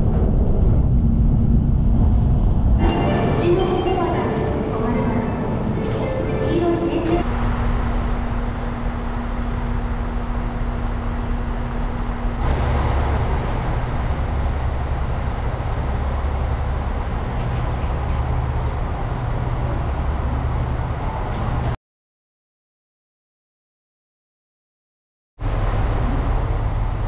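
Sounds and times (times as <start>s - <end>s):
electric trains humming: 0.0s - 21.8s, 25.4s - 27.0s.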